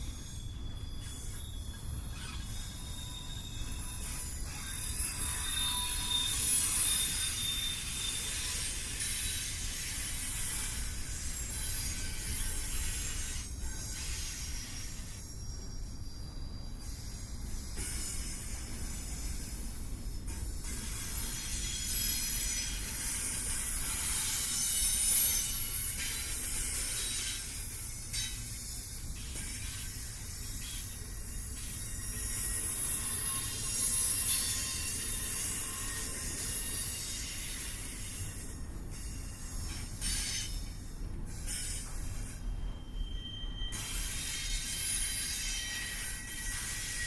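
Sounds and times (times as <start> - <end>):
wheels squealing on rails: 0.0 - 47.0.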